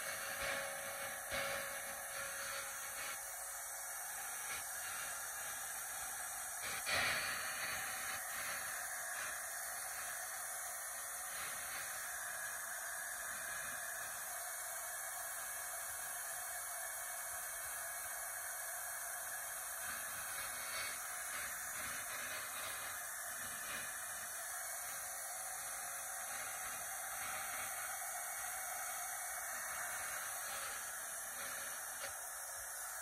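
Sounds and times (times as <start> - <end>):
hair dryer blowing air: 0.0 - 33.0.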